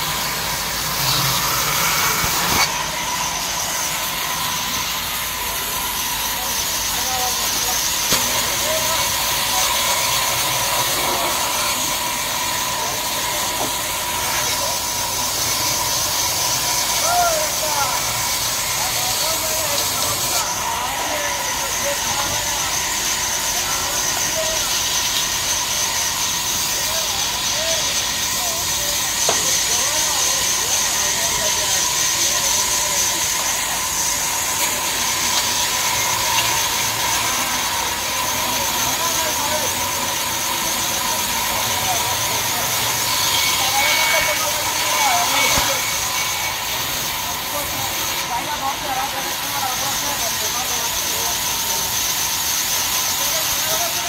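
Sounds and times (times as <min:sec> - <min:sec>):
band saw blade whining: 0:00.0 - 0:54.0.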